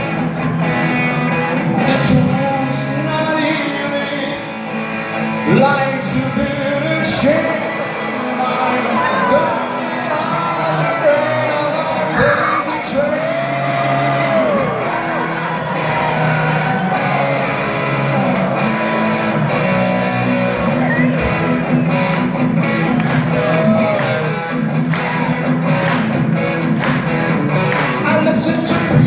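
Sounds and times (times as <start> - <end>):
bass guitar: 0.0 - 29.0
electric guitar with bent notes: 0.0 - 29.0.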